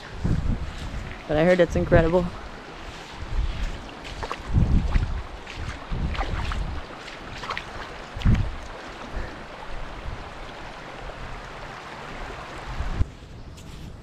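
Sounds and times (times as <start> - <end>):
river rippling over stones: 0.0 - 13.1
wind gusts on microphone: 0.0 - 14.0.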